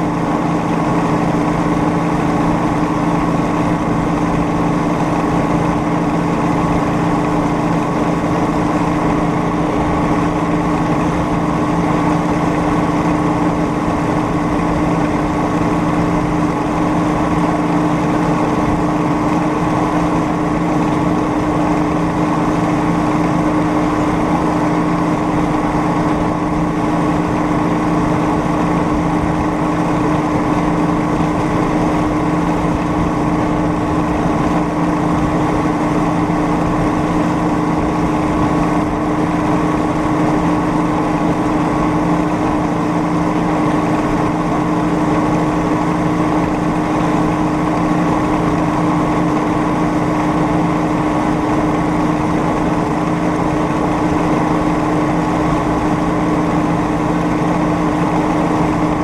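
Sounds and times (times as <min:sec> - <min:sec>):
small engine humming: 0:00.0 - 0:59.0.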